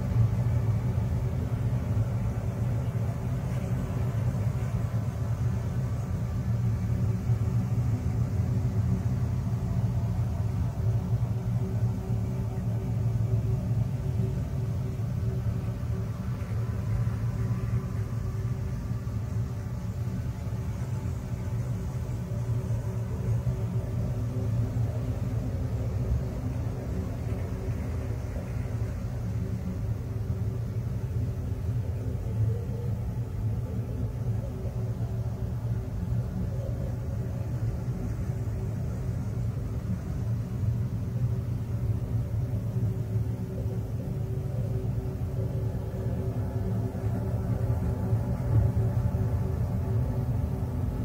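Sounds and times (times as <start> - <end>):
deep rumbling drone: 0.0 - 51.0.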